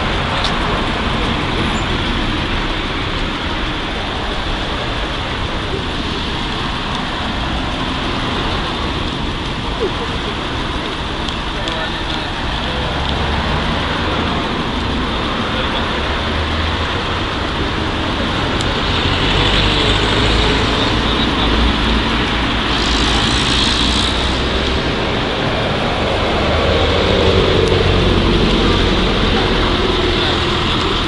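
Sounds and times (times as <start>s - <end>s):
road traffic rumble: 0.0s - 31.0s
vehicle approaching: 0.0s - 31.0s.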